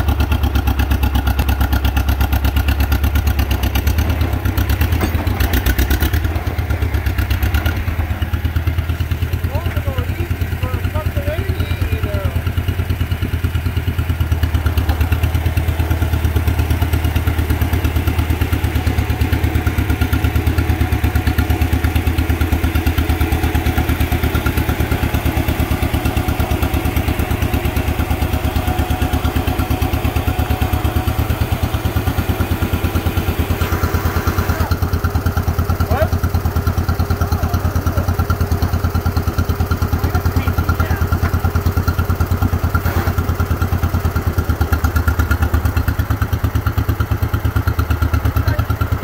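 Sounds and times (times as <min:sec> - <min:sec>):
tractor engine chugging: 0:00.0 - 0:49.0.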